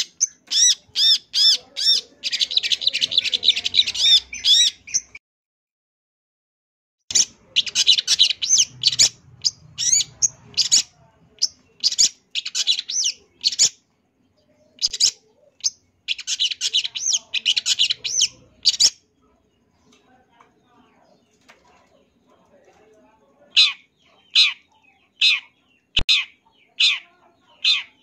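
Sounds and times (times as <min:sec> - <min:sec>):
bird singing varied chirps: 0:00.0 - 0:05.2, 0:07.1 - 0:20.1, 0:23.4 - 0:28.0.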